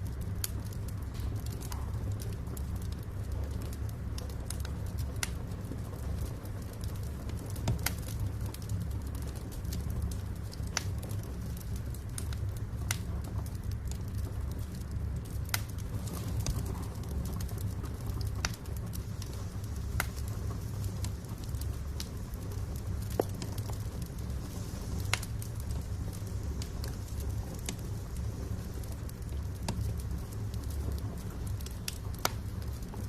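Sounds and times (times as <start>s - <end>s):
fire low rumble: 0.0s - 33.0s
logs crackling and popping: 0.0s - 33.0s.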